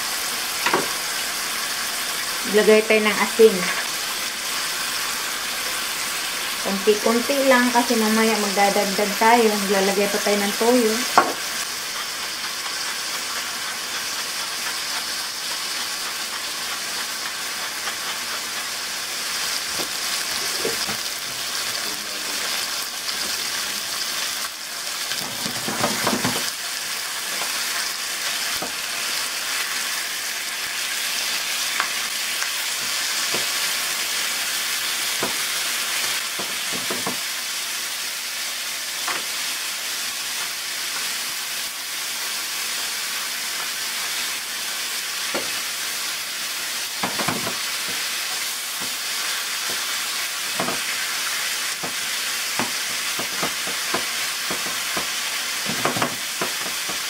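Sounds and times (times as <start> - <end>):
meat sizzling in a frying pan: 0.0 - 57.0.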